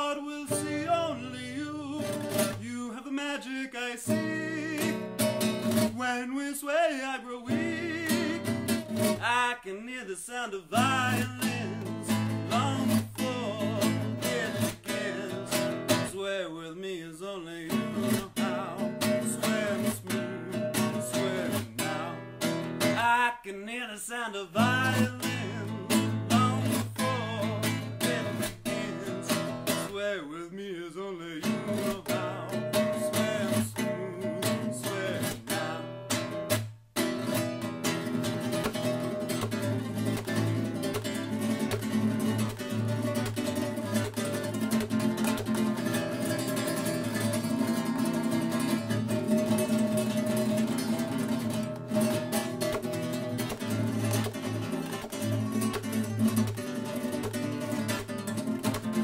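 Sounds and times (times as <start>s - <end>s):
classical guitar strumming: 0.0s - 16.5s, 17.3s - 30.2s, 31.3s - 59.0s.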